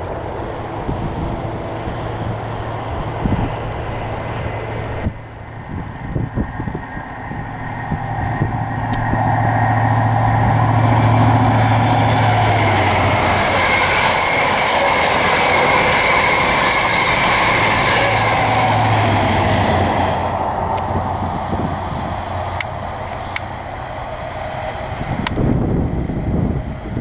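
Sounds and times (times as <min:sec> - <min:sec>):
diesel engine drone: 0:00.0 - 0:27.0
train wheels on rails: 0:00.0 - 0:27.0.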